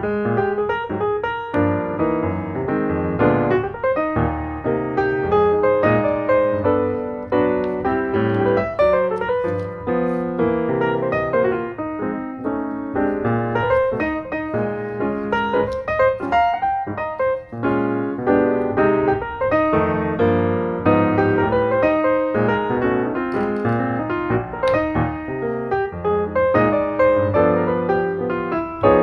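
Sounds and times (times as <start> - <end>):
lively piano music: 0.0 - 29.0.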